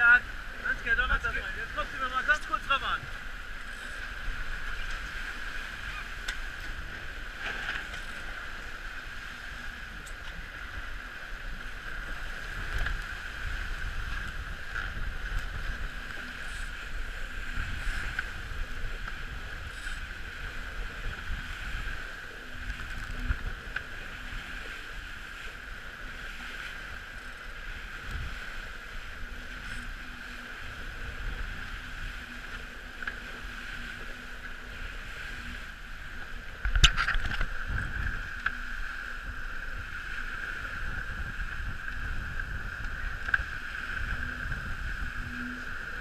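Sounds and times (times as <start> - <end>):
water rushing past a hull: 0.0 - 46.0
wind rumbling on microphone: 0.0 - 46.0.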